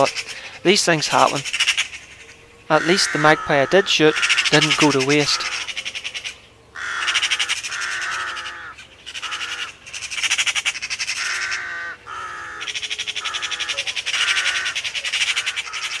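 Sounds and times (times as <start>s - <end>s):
harsh crow-like caws: 2.7s - 16.0s.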